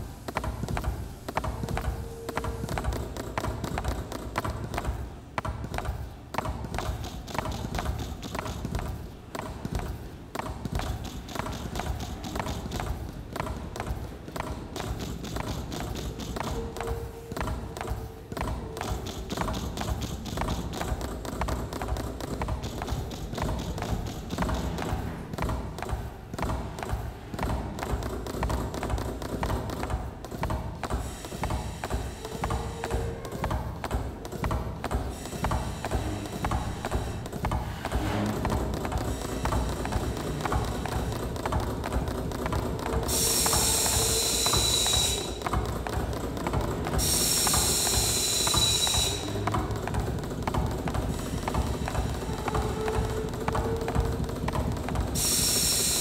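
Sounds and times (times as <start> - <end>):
milking machine pulsators clicking: 0.0 - 56.0.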